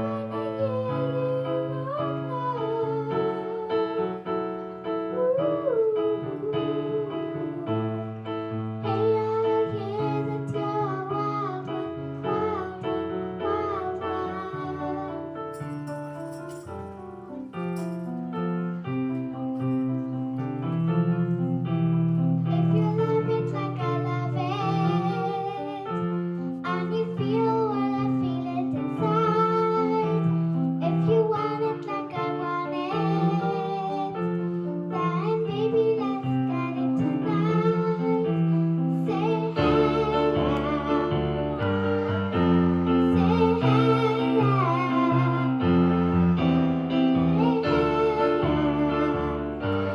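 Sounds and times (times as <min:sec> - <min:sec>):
person singing with vibrato: 0:00.0 - 0:16.7, 0:22.5 - 0:49.9
piano accompaniment: 0:00.0 - 0:49.9.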